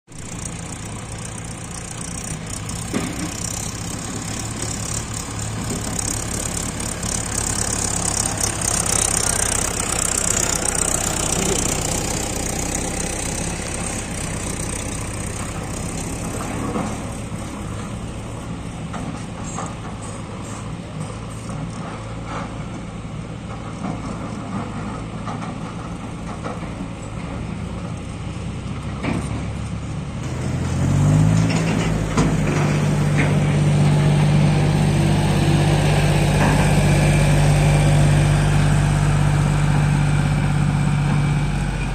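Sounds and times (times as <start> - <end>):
diesel engine idling: 0.1 - 28.9, 31.8 - 41.9.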